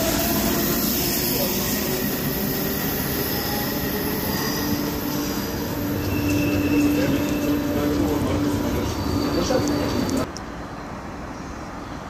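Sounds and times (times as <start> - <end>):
train wheels rumbling on rails: 0.0 - 10.3.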